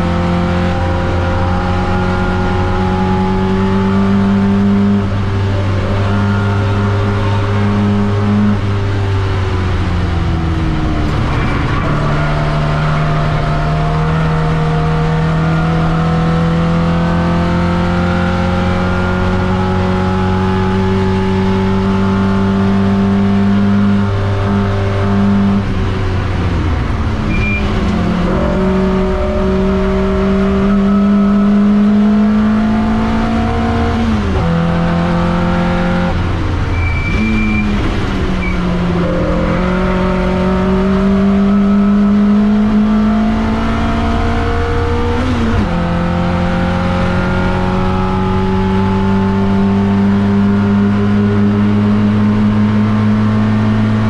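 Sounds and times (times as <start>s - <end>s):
race car engine: 0.0s - 54.0s.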